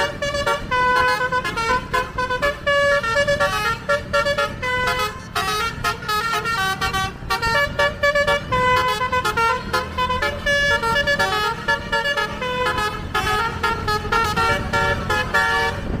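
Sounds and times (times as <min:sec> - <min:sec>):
musical bus horn playing a tune: 0:00.0 - 0:16.0.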